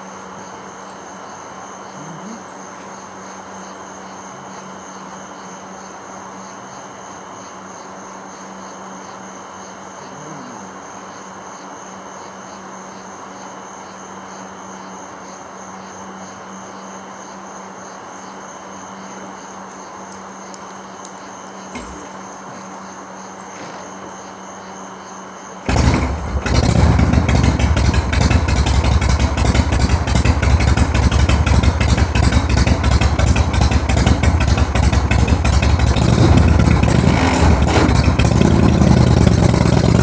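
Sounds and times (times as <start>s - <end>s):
night insects trilling: 0.0s - 40.0s
steady low hum: 0.0s - 40.0s.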